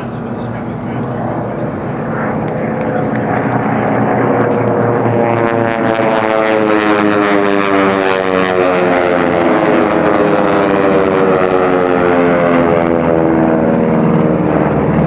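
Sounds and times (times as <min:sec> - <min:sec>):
plane engine passing by: 0:00.0 - 0:15.0
propeller plane engines roaring: 0:00.0 - 0:15.0.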